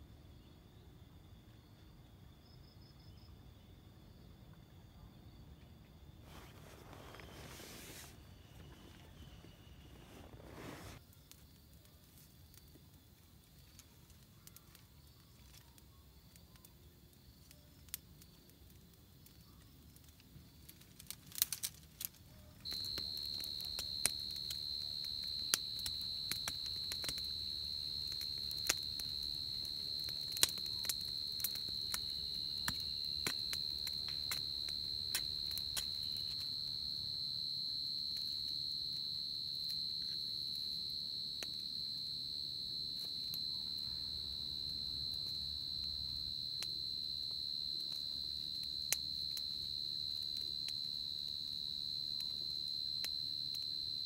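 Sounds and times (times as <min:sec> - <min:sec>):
campfire crackling and popping: 0:08.0 - 0:54.0.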